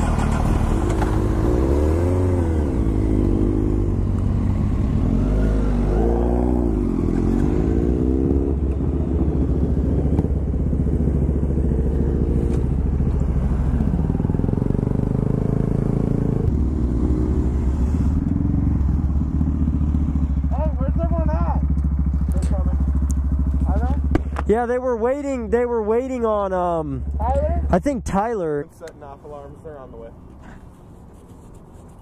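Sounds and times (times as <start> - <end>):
motorcycle engine revving: 0.0 - 27.8.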